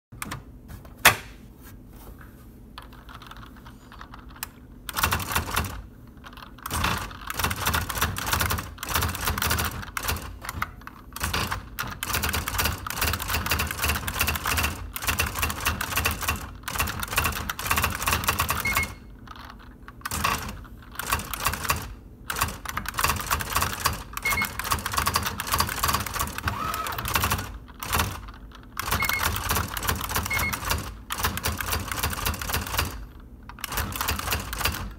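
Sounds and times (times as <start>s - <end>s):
electronic typewriter clattering: 2.9s - 34.9s.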